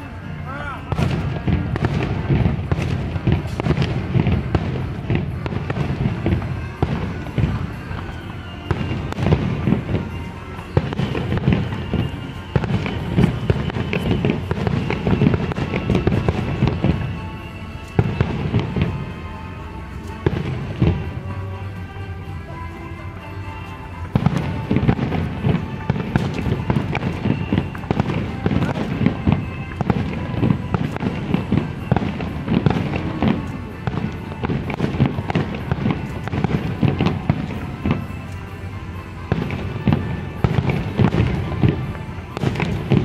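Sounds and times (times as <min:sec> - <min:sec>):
fireworks bangs and booms: 0:00.0 - 0:43.0
fireworks crackling: 0:00.0 - 0:43.0.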